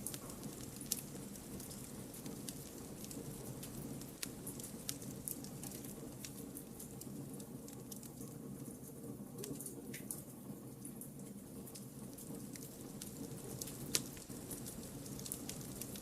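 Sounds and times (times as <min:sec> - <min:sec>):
campfire flames rumbling: 0:00.0 - 0:16.0
firewood crackling and popping: 0:00.0 - 0:16.0.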